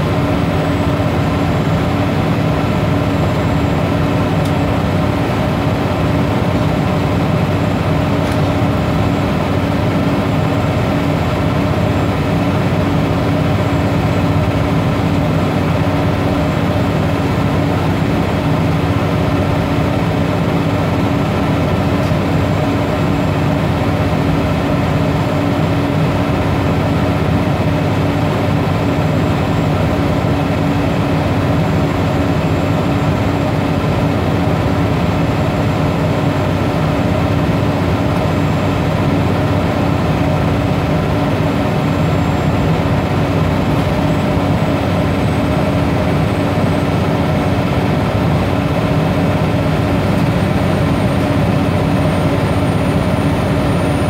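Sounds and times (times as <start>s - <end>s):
bus engine droning: 0.0s - 54.0s
road noise: 0.0s - 54.0s.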